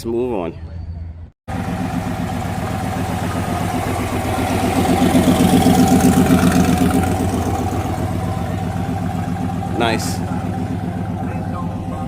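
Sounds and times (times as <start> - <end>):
car engine idling: 1.5 - 12.0.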